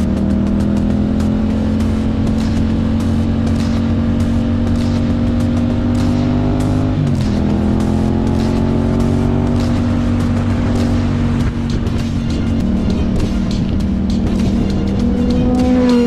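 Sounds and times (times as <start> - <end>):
gear change: 0.0 - 16.0
motorcycle engine accelerating: 0.0 - 16.0.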